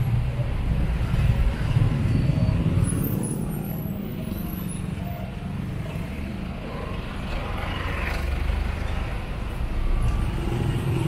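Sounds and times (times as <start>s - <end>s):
car and truck engines: 0.0s - 11.0s.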